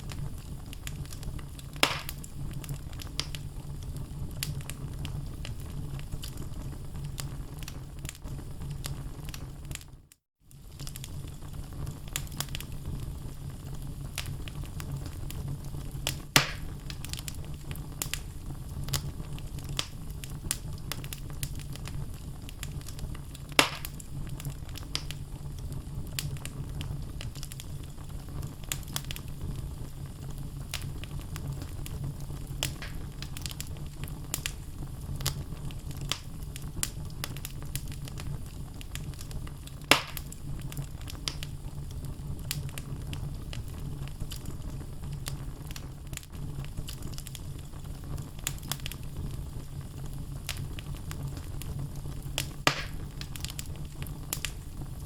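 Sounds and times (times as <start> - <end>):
logs burning in fireplace: 0.0 - 55.0
loud fire pops: 0.0 - 55.0.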